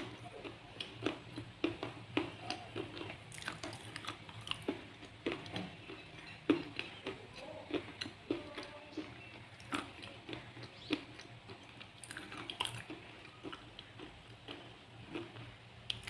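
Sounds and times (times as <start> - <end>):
person chewing with sharp crunches: 0.0 - 16.0.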